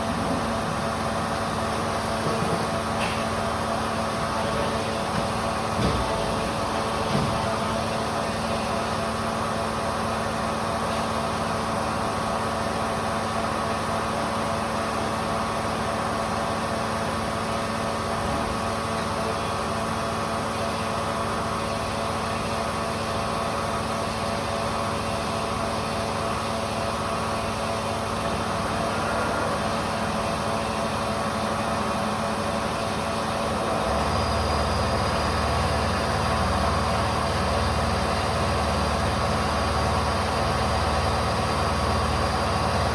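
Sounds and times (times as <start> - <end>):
machinery humming: 0.0 - 42.9.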